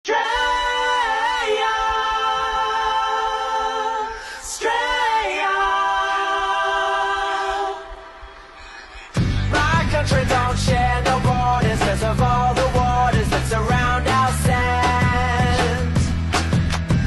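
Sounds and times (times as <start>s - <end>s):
choir singing held chords: 0.1s - 15.6s.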